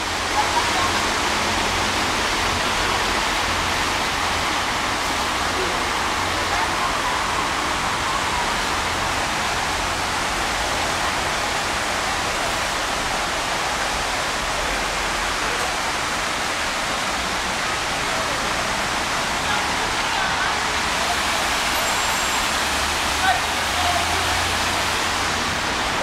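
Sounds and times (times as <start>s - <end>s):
water rushing at a lock: 0.0s - 26.0s.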